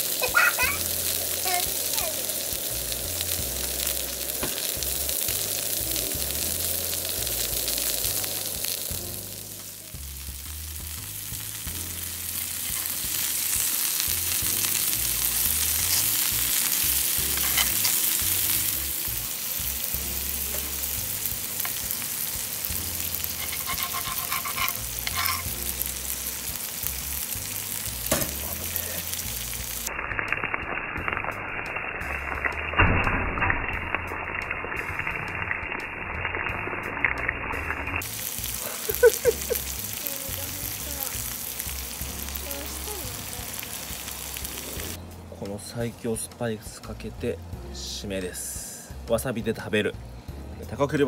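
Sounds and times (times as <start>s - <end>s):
meat sizzling on hot plate: 0.0s - 45.0s.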